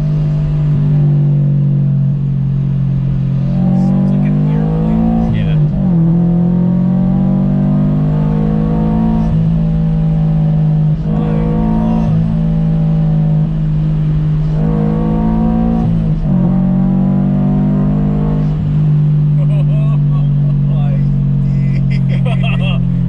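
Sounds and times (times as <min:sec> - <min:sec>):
car engine accelerating through gears: 0:00.0 - 0:23.0.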